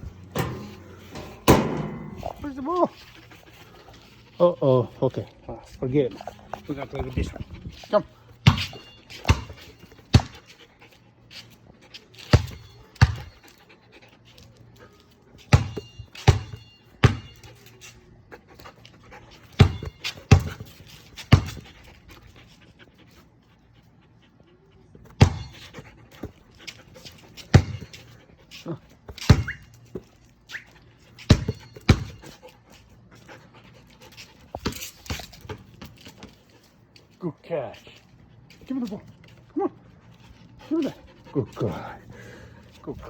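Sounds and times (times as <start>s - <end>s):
dog panting: 0.0s - 15.4s, 17.5s - 29.1s, 29.7s - 37.2s, 37.8s - 43.0s.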